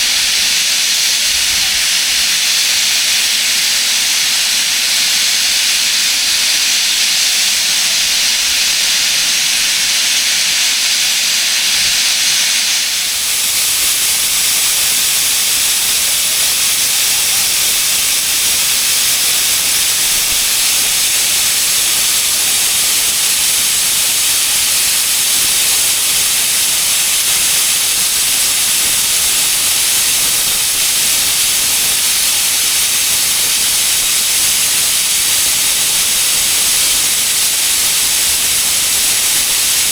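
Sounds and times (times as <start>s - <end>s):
steam locomotive venting steam: 0.0s - 39.9s.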